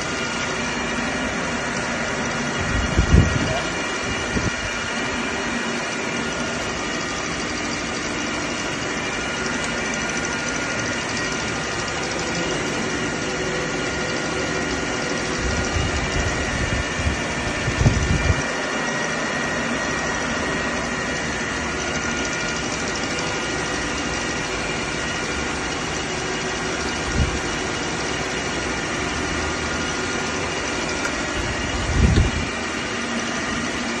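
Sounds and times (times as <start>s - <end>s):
milling machine humming: 0.0s - 34.0s.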